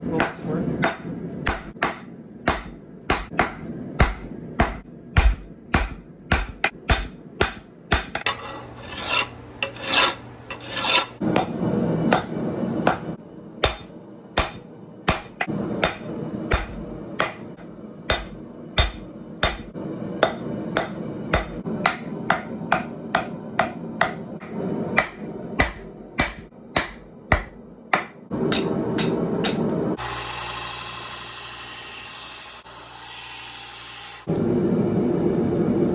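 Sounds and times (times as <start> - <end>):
hammer striking steel on anvil: 0.1 - 29.6.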